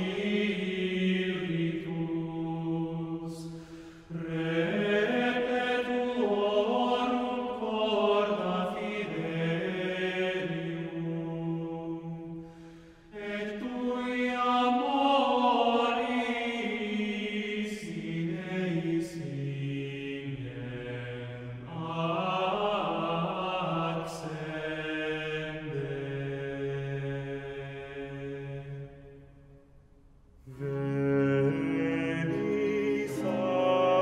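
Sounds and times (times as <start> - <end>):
male choir singing: 0.0 - 12.4, 13.1 - 28.9, 30.5 - 34.0.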